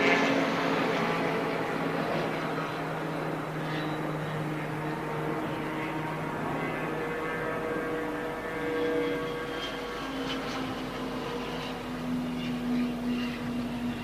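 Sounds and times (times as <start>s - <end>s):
racing car engines droning: 0.0s - 14.0s.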